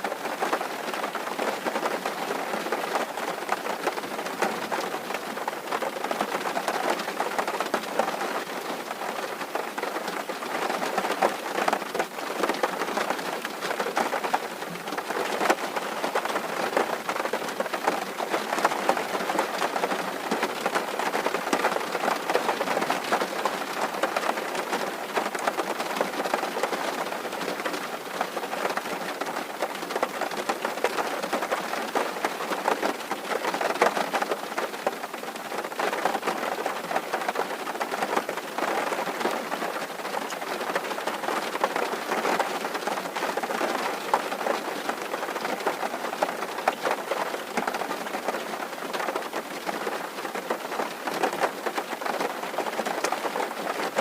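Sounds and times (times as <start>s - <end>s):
rain drumming on a tin roof: 0.0s - 54.0s.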